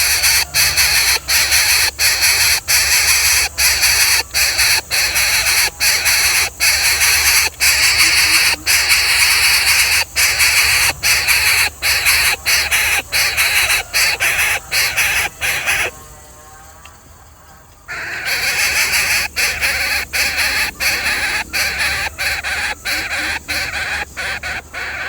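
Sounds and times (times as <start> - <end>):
bird of prey screeching: 0.0 - 15.9, 17.9 - 25.0.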